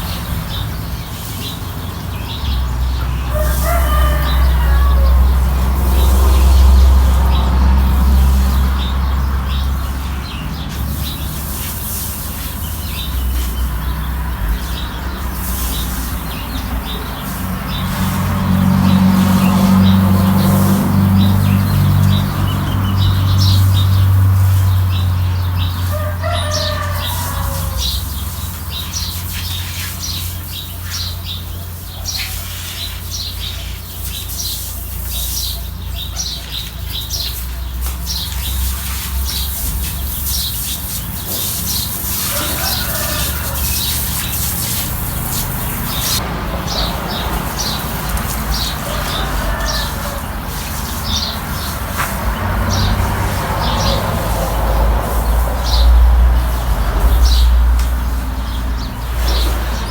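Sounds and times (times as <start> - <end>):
broom sweeping: 3.3 - 58.4.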